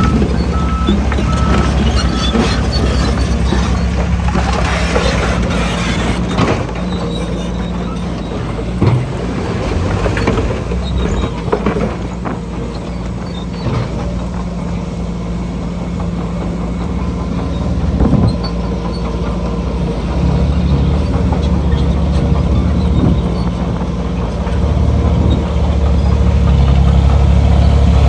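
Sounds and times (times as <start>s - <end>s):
heavy machinery diesel engine: 0.0s - 28.0s.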